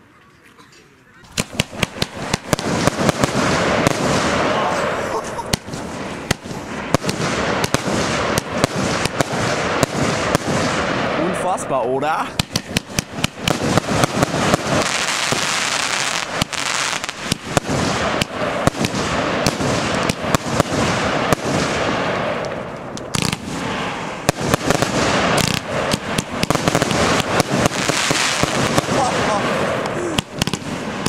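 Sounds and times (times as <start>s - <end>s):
firework crackling: 1.2s - 31.0s
firework shots and bursts: 1.2s - 31.0s.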